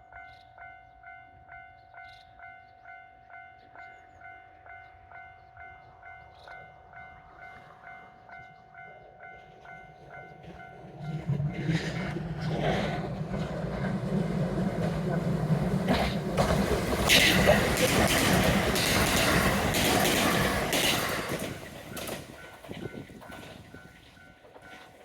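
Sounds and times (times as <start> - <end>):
railroad crossing bell ringing: 0.0 - 11.8, 13.2 - 25.0
train running noise: 0.1 - 25.0.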